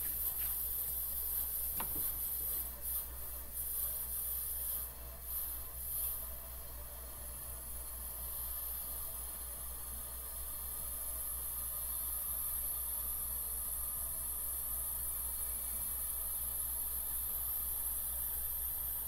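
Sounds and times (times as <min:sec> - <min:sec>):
constant hiss: 0:00.0 - 0:19.0
refrigeration compressor hum: 0:00.0 - 0:19.0.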